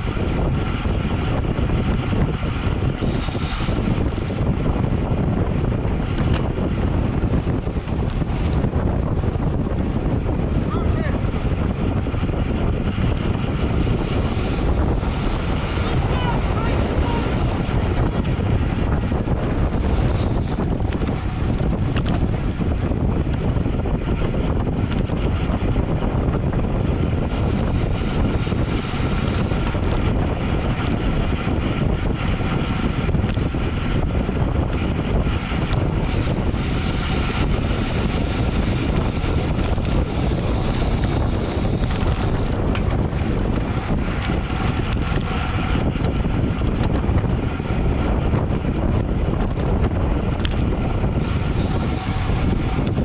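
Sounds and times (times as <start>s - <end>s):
loud wind on microphone: 0.0s - 53.0s.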